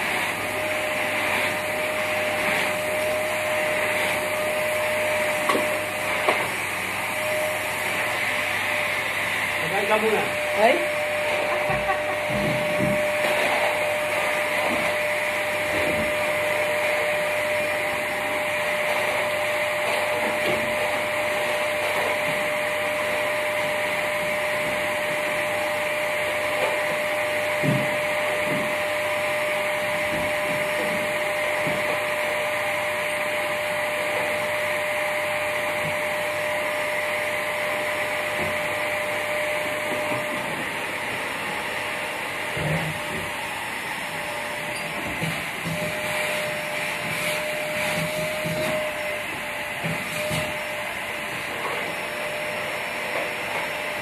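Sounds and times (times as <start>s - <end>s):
vacuum cleaner motor whining: 0.0s - 54.0s.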